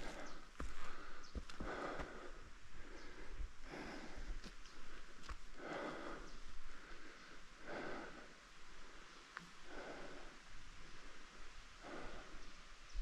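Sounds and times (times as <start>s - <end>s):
person breathing hard: 0.0s - 12.6s.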